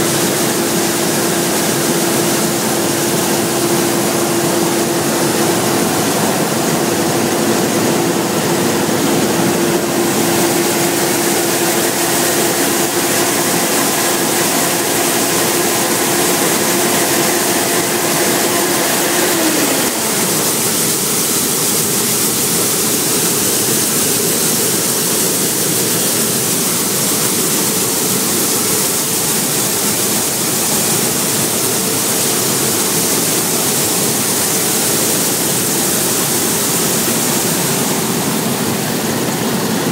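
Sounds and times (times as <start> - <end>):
combine harvester running: 0.0 - 39.9
machine hum: 0.0 - 39.9.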